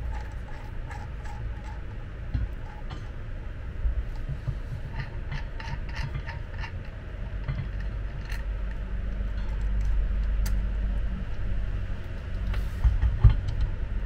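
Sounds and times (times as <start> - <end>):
motor wheel low rumble: 0.0 - 14.0.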